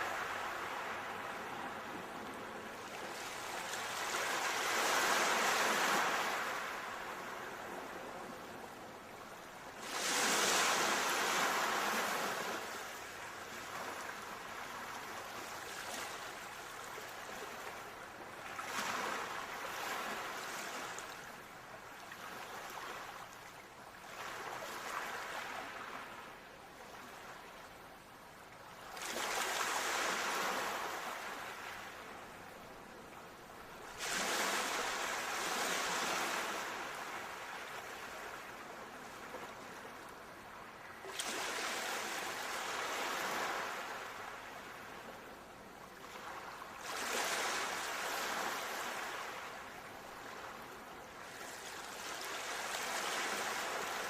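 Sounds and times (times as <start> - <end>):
ocean waves washing onto shore: 0.0 - 23.3, 28.9 - 54.0.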